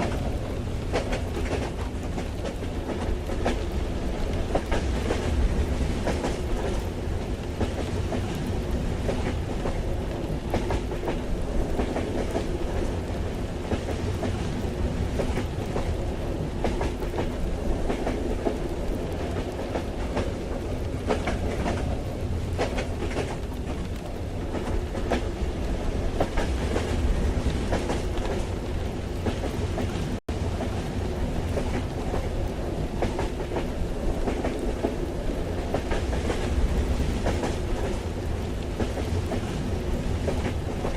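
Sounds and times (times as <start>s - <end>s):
train wheels clattering: 0.0s - 30.8s, 31.4s - 40.9s
train carriage rumble: 0.0s - 40.9s.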